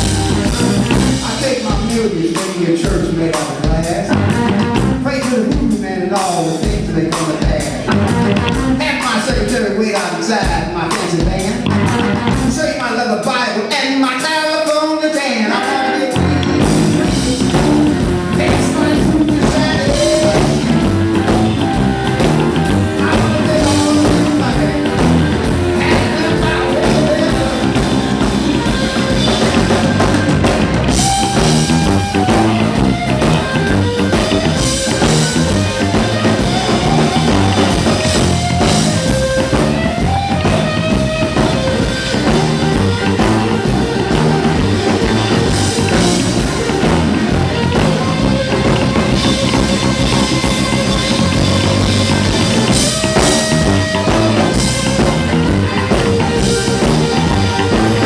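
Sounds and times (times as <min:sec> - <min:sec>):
lead guitar with bent notes: 0:00.0 - 0:05.7, 0:07.4 - 0:09.5, 0:10.6 - 0:12.8, 0:15.4 - 0:58.0
drum kit and bass beat: 0:00.0 - 0:12.8, 0:15.6 - 0:58.0.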